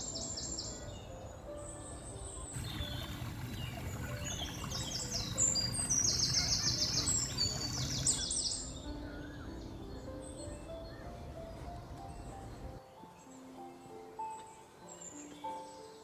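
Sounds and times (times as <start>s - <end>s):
songbirds chirping and trilling: 0.0s - 13.5s
faint background music: 0.0s - 16.0s.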